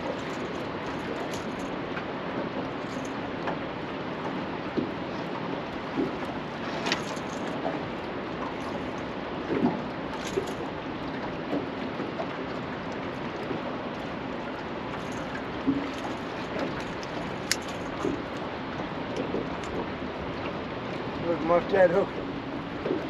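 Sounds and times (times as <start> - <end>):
river water rushing: 0.0 - 23.0
wind: 0.0 - 23.0.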